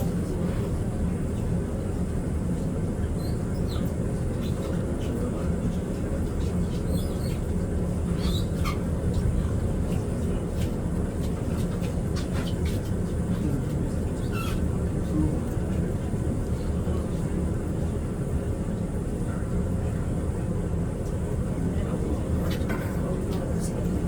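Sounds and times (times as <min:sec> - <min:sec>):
low rumble on ship deck: 0:00.0 - 0:24.0.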